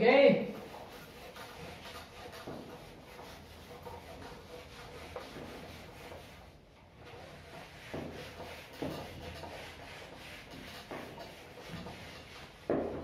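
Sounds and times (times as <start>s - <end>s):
duster rubbing on whiteboard: 0.4s - 13.0s.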